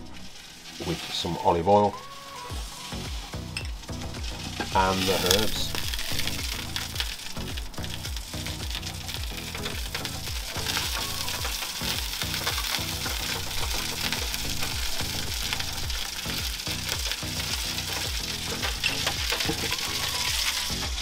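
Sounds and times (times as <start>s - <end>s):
meat sizzling on a grill: 0.0s - 21.0s
music with bass beat: 2.0s - 21.0s.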